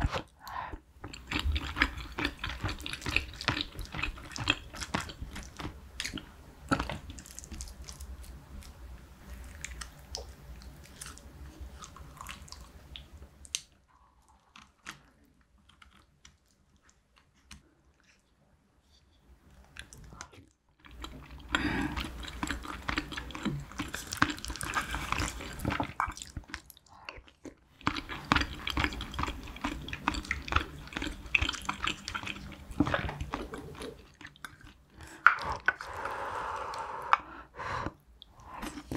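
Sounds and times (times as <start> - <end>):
chewing fish and rice: 1.0 - 18.3, 19.5 - 36.9.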